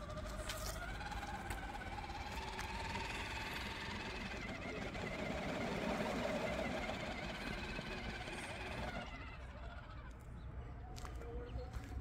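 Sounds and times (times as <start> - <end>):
electric motor and gearbox whining: 0.0 - 10.4.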